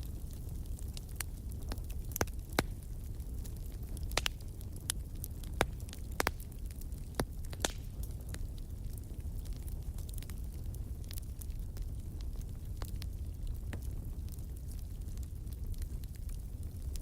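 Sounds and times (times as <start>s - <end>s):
burning wood crackling: 0.0s - 17.0s
campfire flames rumbling: 0.0s - 17.0s.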